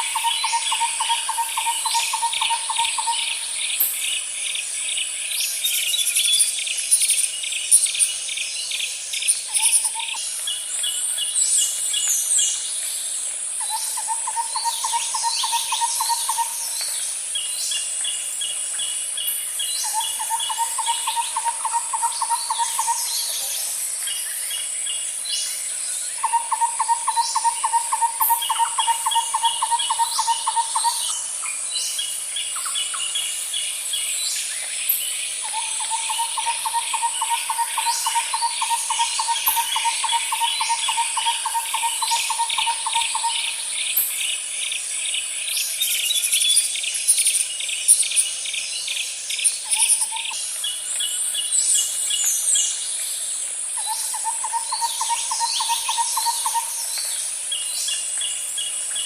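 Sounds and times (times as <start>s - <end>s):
birds calling and chirping: 0.0s - 59.0s
high-pitched insect drone: 0.0s - 59.0s.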